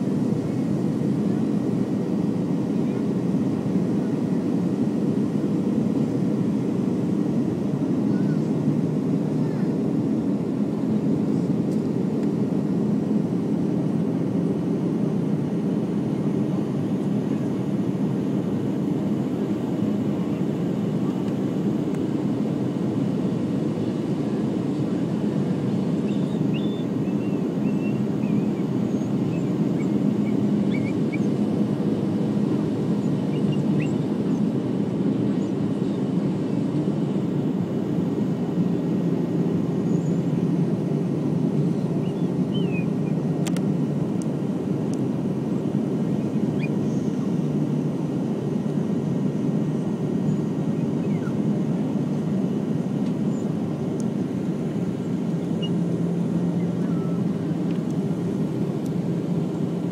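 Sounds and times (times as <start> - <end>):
airliner cabin engine roar: 0.0 - 59.9.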